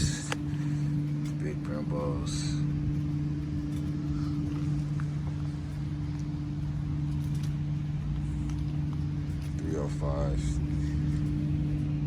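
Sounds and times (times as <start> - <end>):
faint rumble: 0.0 - 12.0
low mechanical hum: 0.0 - 12.0.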